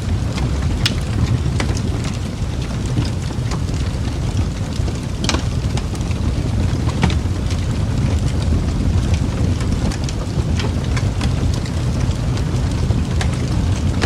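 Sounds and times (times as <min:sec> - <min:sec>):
fire popping and snapping: 0:00.0 - 0:14.0
low rumble of flames: 0:00.0 - 0:14.0.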